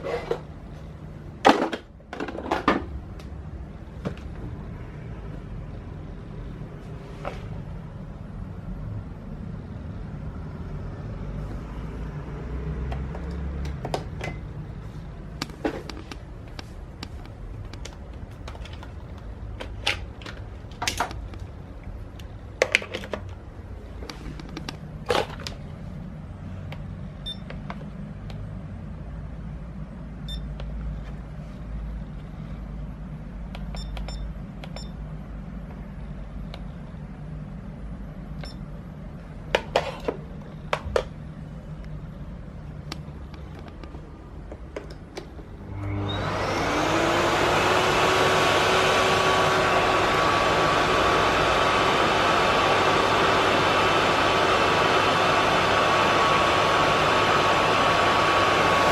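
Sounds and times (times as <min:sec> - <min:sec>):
low steady hum: 0:00.0 - 0:47.7.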